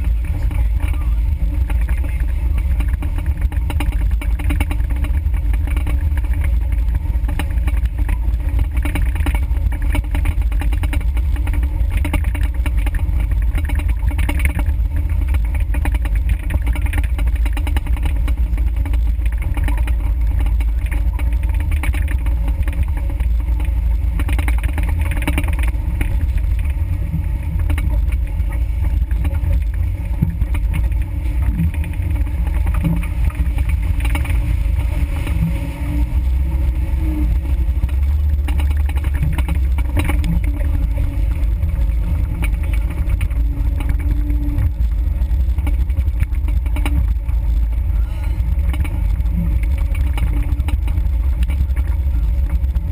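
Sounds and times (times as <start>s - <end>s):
vehicle engine rumbling: 0.0s - 52.9s.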